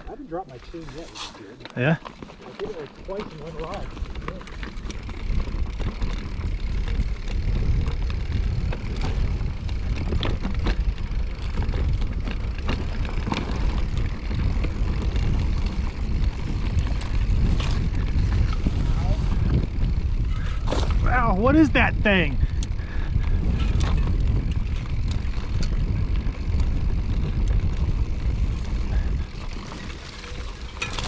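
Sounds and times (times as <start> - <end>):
bike knocks and rattles: 0.5 - 21.2, 22.4 - 31.0
wind buffeting microphone: 2.8 - 31.0.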